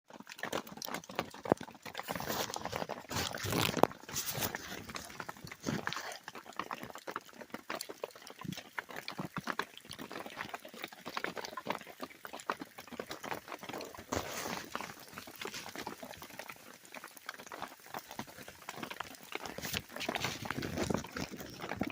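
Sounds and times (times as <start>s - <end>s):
freezing rain pattering: 0.1s - 21.9s.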